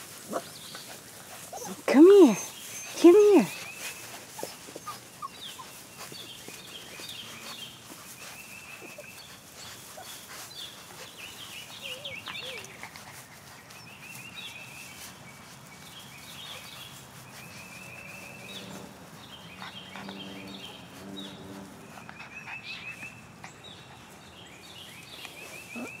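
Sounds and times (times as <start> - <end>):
songbirds singing: 0.0 - 26.0.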